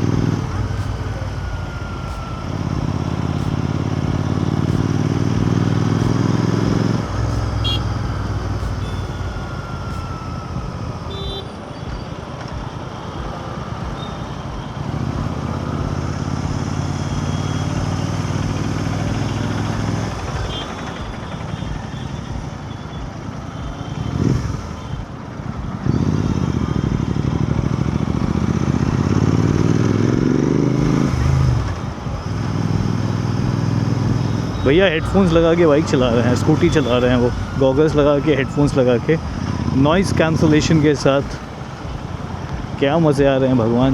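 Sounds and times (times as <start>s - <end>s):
motorcycle engine running: 0.0s - 43.9s
road noise: 0.0s - 43.9s.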